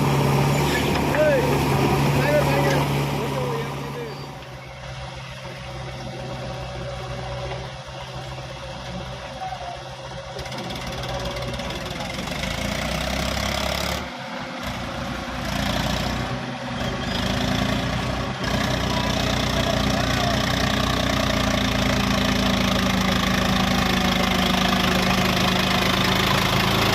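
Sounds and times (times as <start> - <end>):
diesel engines running: 0.0 - 26.9.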